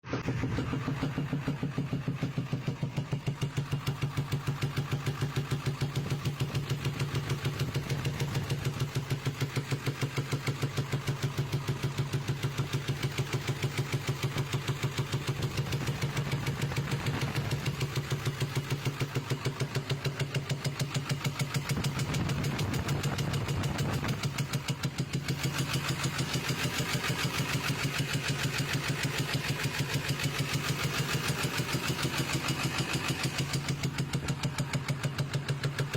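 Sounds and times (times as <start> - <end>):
diesel engine running with popping: 0.0 - 35.9.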